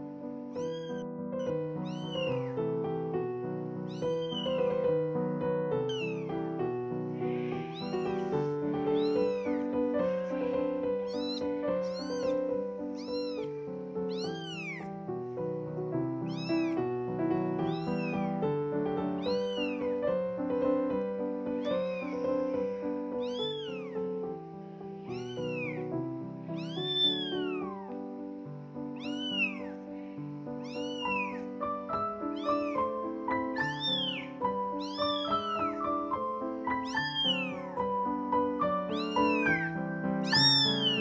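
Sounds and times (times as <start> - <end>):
kitten meowing: 0.4 - 15.1, 16.1 - 24.3, 24.9 - 28.2, 28.9 - 41.0.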